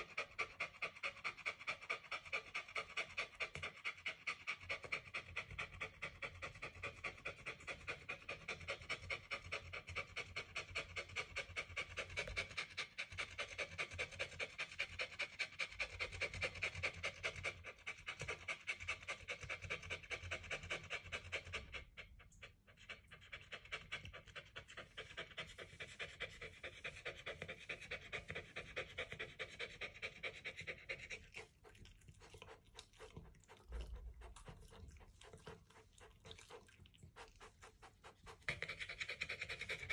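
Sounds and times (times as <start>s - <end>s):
dog panting rapidly: 0.0s - 39.9s.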